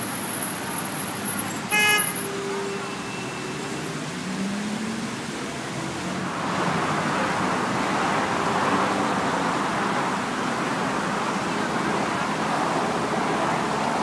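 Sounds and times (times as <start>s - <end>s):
city ambience rushing noise: 0.0s - 14.0s.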